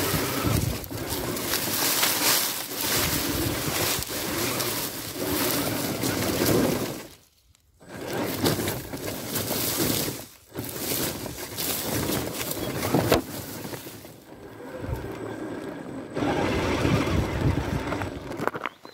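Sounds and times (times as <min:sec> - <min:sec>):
electric motor and gears whirring: 0:00.0 - 0:18.9
tyres crunching leaves and gravel: 0:00.0 - 0:18.9.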